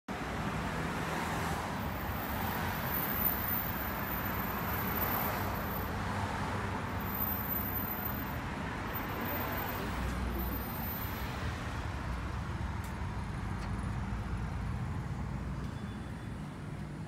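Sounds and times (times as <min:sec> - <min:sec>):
street traffic hum: 0:00.1 - 0:17.0.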